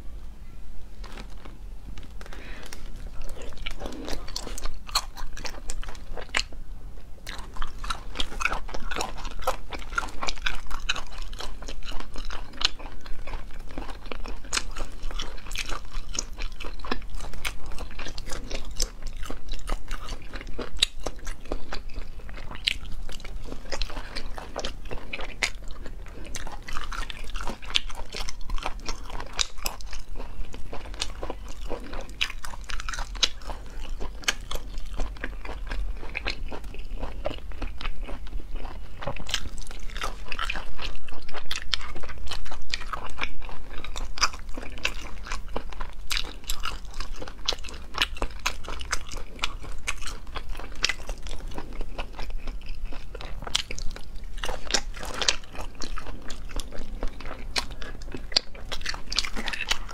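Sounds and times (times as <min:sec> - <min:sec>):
chewing with wet clicks: 0:02.2 - 0:06.6, 0:07.2 - 0:59.9.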